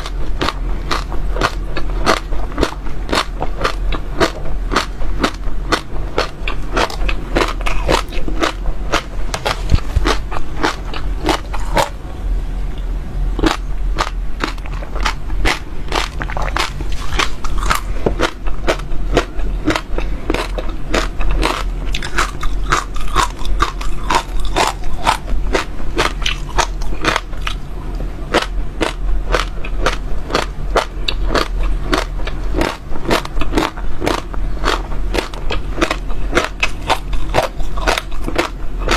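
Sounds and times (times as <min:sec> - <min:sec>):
seeds crunching in mouth: 0:00.0 - 0:11.9, 0:13.4 - 0:27.6, 0:28.3 - 0:38.9
faint low hum: 0:00.0 - 0:38.9.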